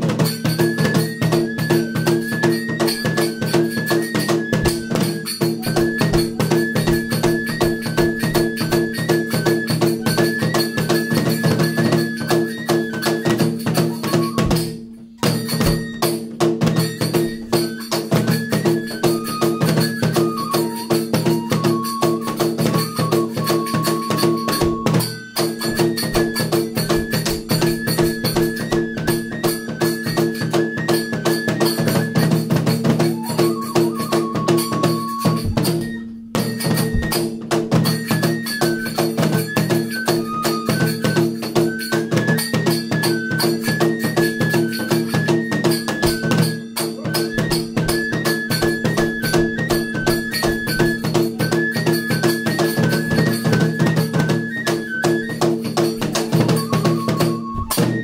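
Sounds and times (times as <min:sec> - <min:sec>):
bamboo flute melody: 0:00.0 - 0:58.0
fast taiko drum beats: 0:00.0 - 0:58.0.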